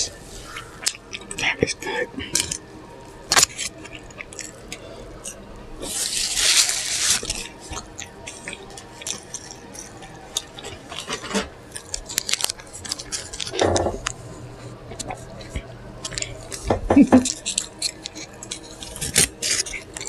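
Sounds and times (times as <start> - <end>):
wet chewing and lip smacking: 0.5 - 11.1, 11.7 - 20.0.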